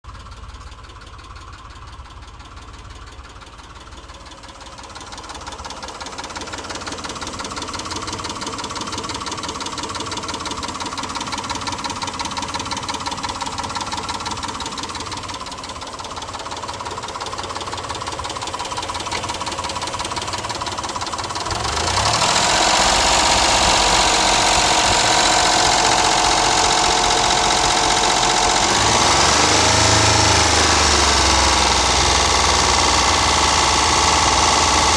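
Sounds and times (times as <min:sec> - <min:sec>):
engine running with ticking knock: 0:00.0 - 0:34.9.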